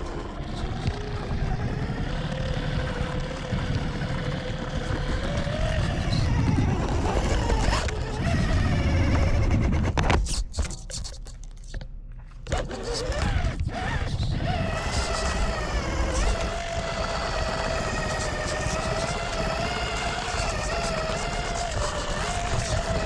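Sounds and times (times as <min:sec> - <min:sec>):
electric motor whining: 0:00.0 - 0:10.1, 0:12.4 - 0:23.0.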